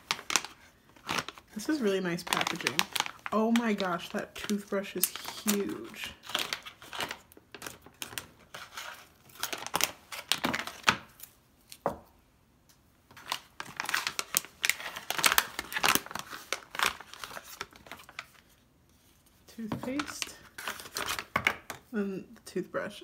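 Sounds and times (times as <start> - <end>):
plastic pouch crinkling: 0.0 - 11.3, 13.1 - 18.6, 19.8 - 21.8.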